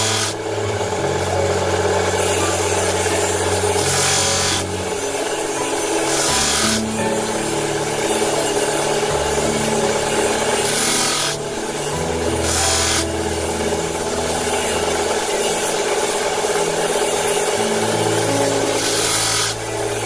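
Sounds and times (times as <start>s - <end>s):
wire-making machinery rasping: 0.0s - 20.0s.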